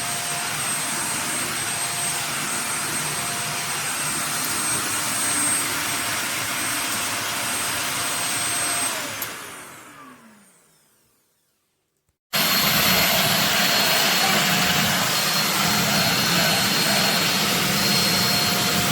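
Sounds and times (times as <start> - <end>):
vacuum cleaner motor whining: 0.0 - 11.5, 12.4 - 18.9.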